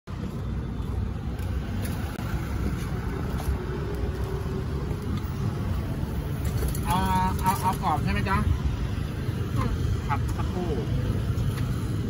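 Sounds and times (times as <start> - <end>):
street traffic rumble: 0.1 - 12.0.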